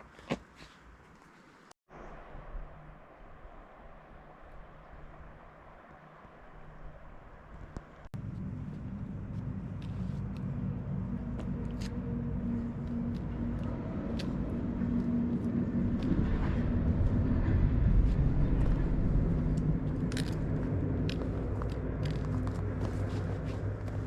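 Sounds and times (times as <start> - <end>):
vehicle engine humming: 1.9 - 24.0.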